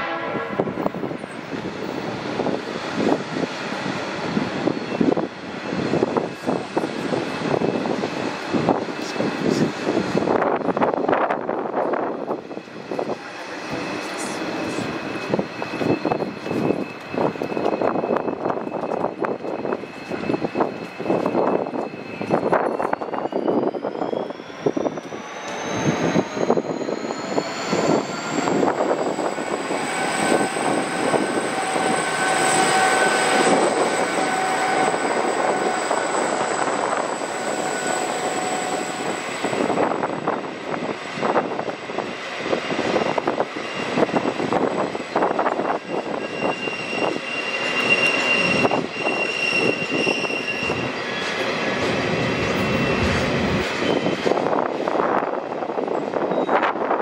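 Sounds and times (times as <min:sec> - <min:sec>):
locomotive high whine: 0:00.0 - 0:57.0.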